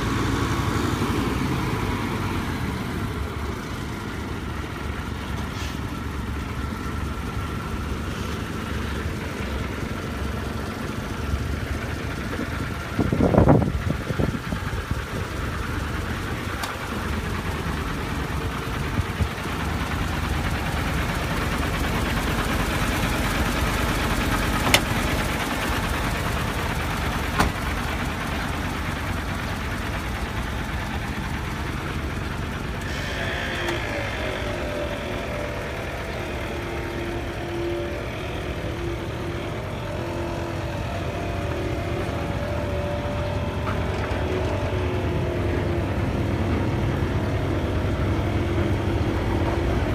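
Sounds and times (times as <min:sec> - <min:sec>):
diesel truck engine idling: 0:00.0 - 0:49.9.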